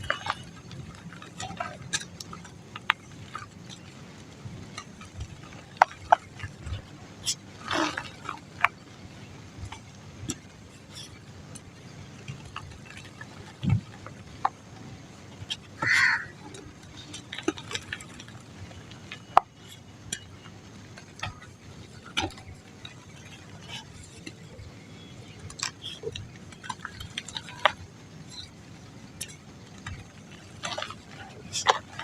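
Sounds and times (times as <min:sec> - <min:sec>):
dry mud crumbling: 0:00.0 - 0:32.0
small crackles and ticks: 0:00.0 - 0:32.0.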